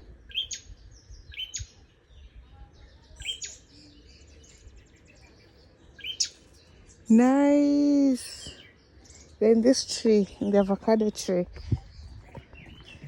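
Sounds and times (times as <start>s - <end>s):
faint rapid bird twitter: 0.0s - 10.6s
birds chirping: 0.0s - 13.0s.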